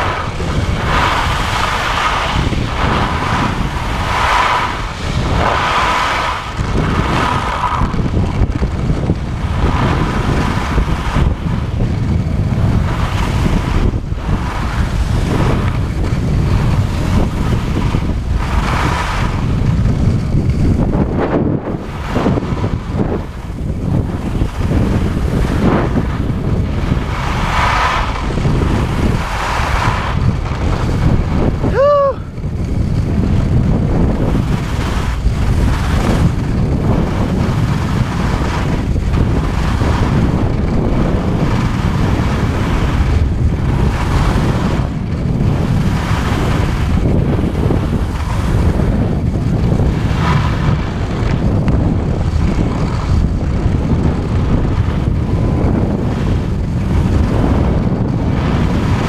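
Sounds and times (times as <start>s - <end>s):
skis scraping over snow: 0.0s - 59.0s
wind rushing over microphone: 0.0s - 59.0s.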